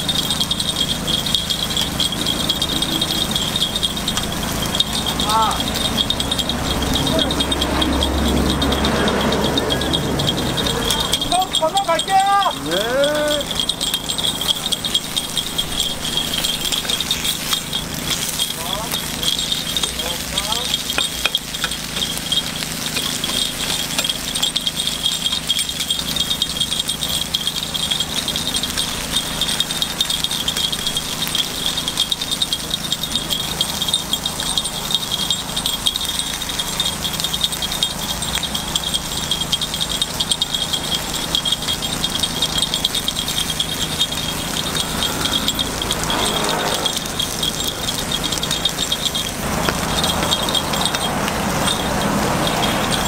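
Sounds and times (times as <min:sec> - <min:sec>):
food frying in hot oil: 0:00.0 - 0:53.0.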